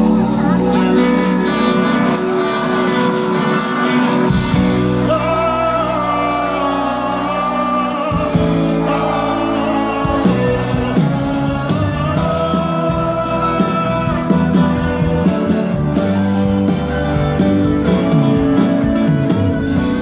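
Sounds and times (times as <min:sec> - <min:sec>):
live band music through loudspeakers: 0:00.0 - 0:20.0.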